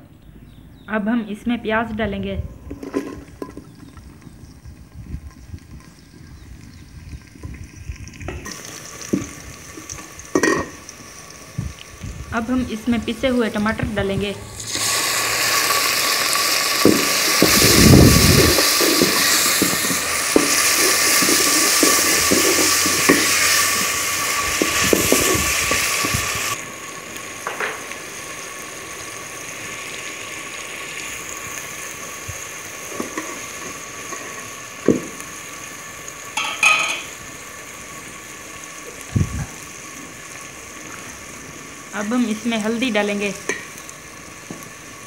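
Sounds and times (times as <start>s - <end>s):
onions sizzling in hot fat: 1.6s - 45.0s.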